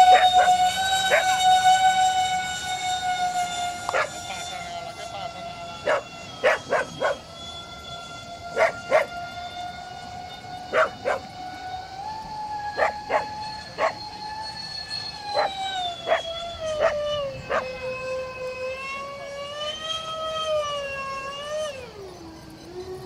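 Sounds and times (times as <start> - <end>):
electric ducted fans whining: 0.0 - 23.0.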